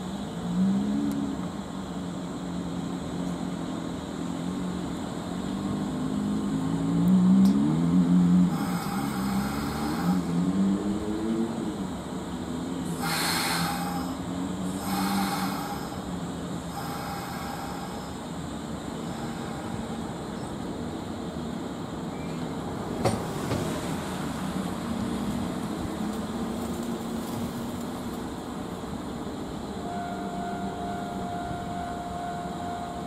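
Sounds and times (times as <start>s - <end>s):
electric train humming: 0.0s - 33.0s
wheel and rail rushing noise: 0.0s - 33.0s.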